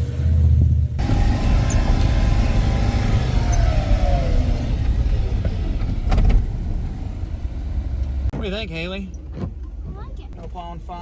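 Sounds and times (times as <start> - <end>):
truck engine rumble: 0.0 - 10.9.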